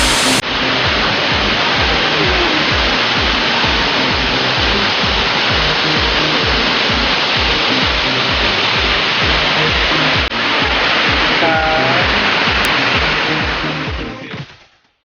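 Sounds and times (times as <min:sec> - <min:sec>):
waterfall rushing: 0:00.0 - 0:14.4
background music with beat: 0:00.0 - 0:14.6.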